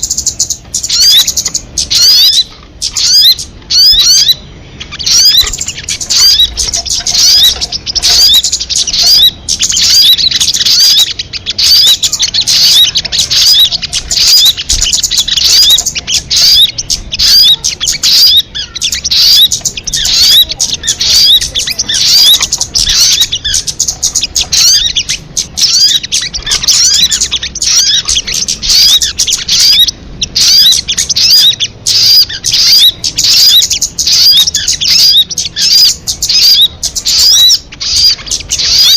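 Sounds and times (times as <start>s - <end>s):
bird twittering: 0.0s - 38.9s.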